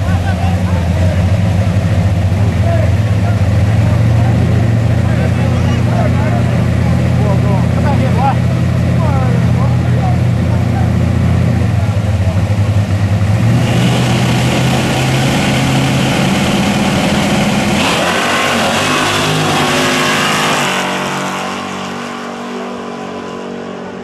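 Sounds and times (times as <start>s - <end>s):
drag cars launching at full throttle: 0.0s - 24.0s.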